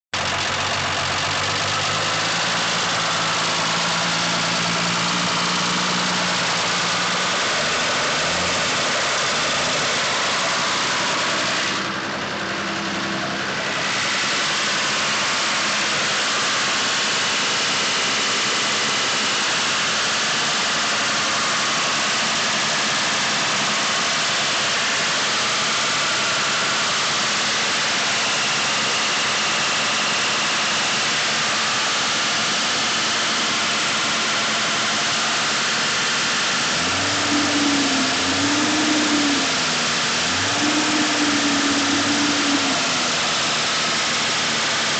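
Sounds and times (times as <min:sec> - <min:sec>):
engine idling: 0:00.1 - 0:44.9.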